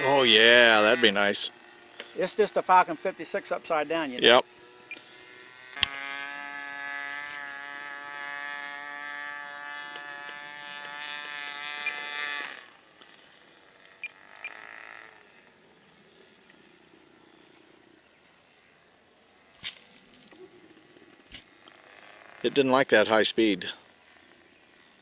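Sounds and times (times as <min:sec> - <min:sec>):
model airplane engine buzzing: 0:00.0 - 0:25.0.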